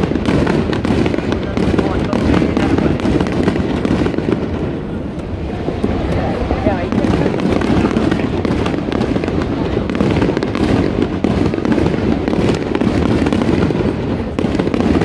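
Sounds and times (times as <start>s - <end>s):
fireworks booming and crackling: 0.0s - 15.0s.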